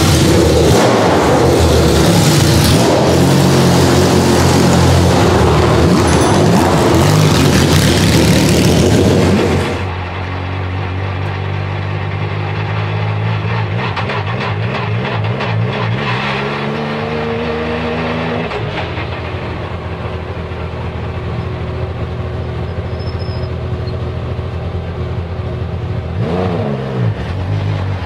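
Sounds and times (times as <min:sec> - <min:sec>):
race car engine running: 0:00.0 - 0:28.0.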